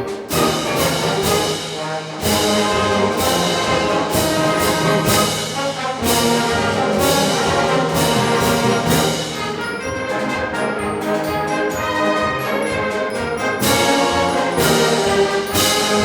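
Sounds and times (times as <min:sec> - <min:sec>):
percussion accents: 0:00.0 - 0:16.0
wind orchestra playing a march: 0:00.0 - 0:16.0.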